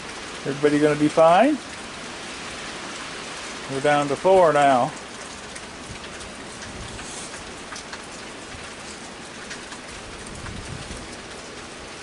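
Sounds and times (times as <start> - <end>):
heavy rain falling: 0.0 - 12.0
raindrops ticking on surfaces: 0.0 - 12.0.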